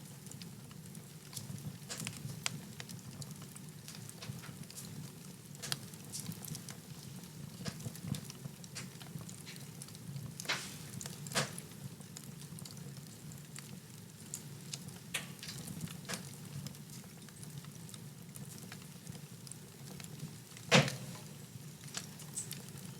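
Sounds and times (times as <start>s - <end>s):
wood fire crackling: 0.0s - 22.9s
fire popping: 0.2s - 22.9s.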